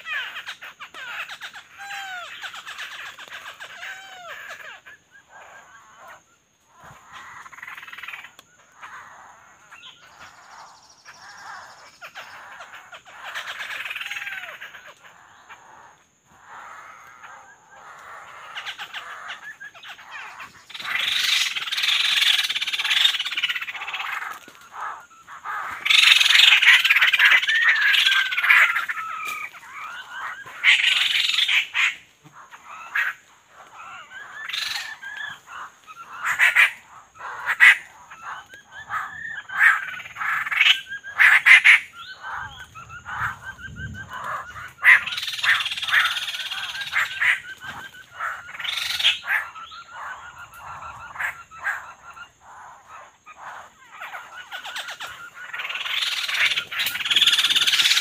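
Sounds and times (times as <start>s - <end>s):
forest birds calling: 0.0s - 58.0s.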